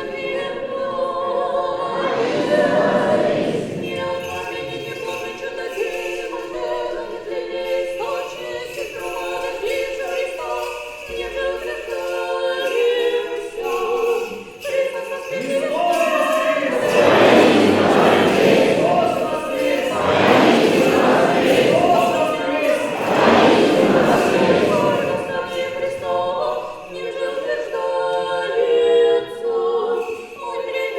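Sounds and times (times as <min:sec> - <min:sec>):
choir chanting a cappella: 0:00.0 - 0:08.8, 0:12.6 - 0:30.9.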